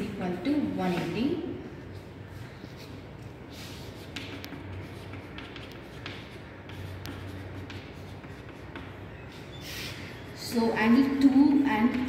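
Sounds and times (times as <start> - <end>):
chalk scratching on a chalkboard: 2.0 - 12.0.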